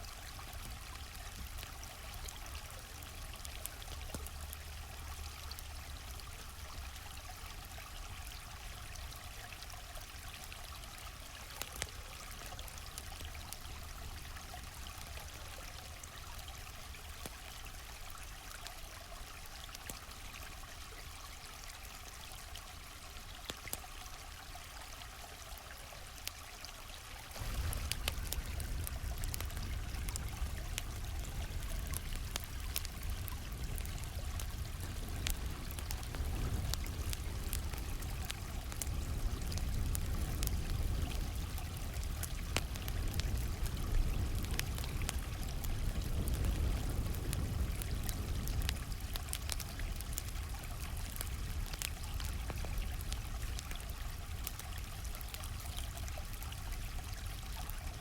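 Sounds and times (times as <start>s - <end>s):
campfire crackling: 0.0s - 58.0s
stream flowing: 0.0s - 58.0s.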